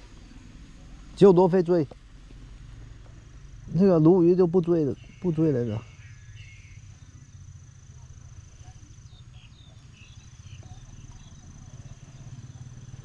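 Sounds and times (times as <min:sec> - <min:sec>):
high-pitched insect trill: 0:00.0 - 0:13.0
low steady rumble: 0:00.0 - 0:13.0
faint bird chirps: 0:02.4 - 0:13.0.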